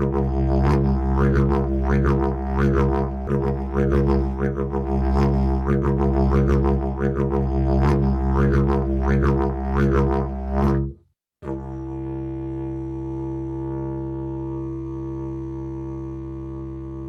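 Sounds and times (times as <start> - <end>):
didgeridoo drone: 0.0 - 17.0.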